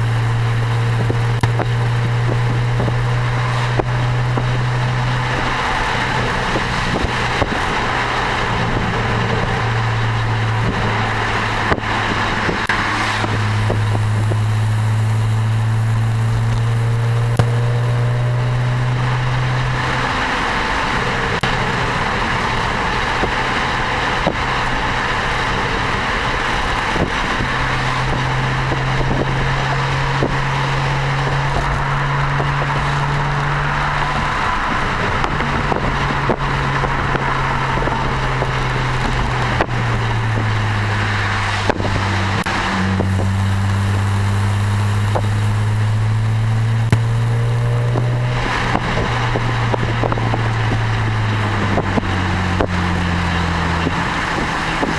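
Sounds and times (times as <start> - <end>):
car exhaust drone: 0.0 - 54.9
road and tyre noise: 0.0 - 54.9.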